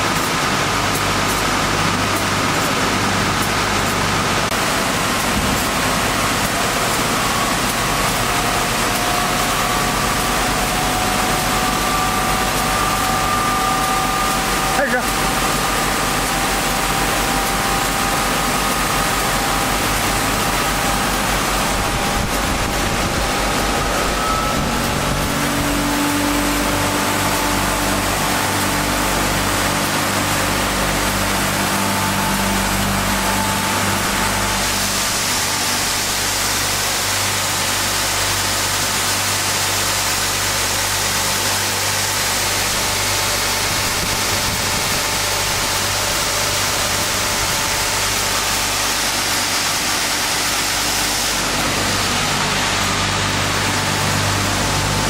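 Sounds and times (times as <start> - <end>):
sanding machine on wood: 3.6 - 55.0.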